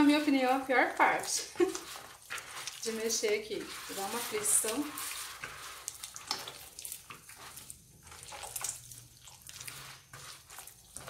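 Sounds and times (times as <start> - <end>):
hand kneading sticky dough: 0.0 - 11.0
wet squelches and smacks: 1.4 - 4.0, 4.6 - 11.0.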